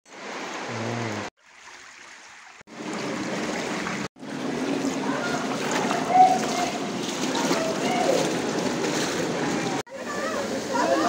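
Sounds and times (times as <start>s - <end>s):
stream running over pebbles: 0.1s - 11.0s.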